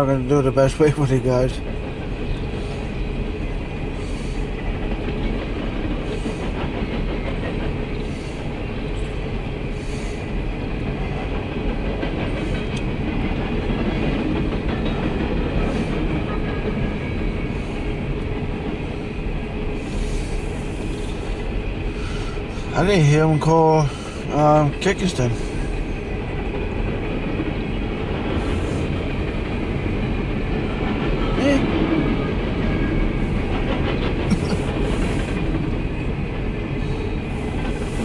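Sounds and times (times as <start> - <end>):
freight train wheels rattling on rail: 0.0 - 38.0.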